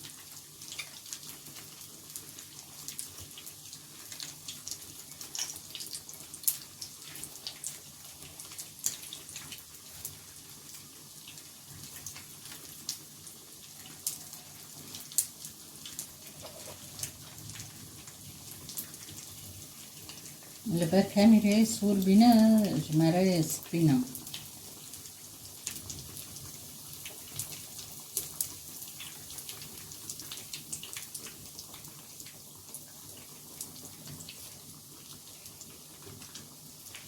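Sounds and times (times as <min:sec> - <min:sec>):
oil popping and crackling: 0:00.0 - 0:23.0, 0:23.9 - 0:37.0
food deep-frying in hot oil: 0:00.0 - 0:37.0.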